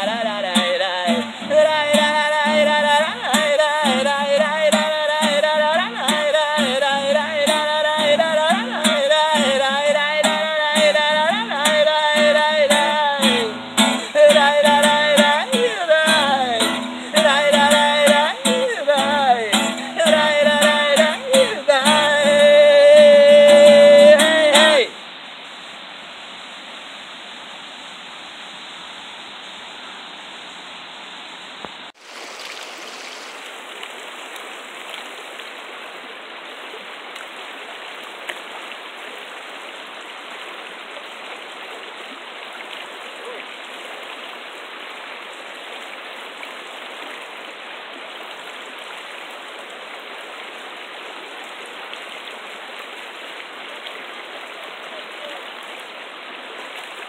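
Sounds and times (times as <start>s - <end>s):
river running over rocks: 0.0s - 57.0s.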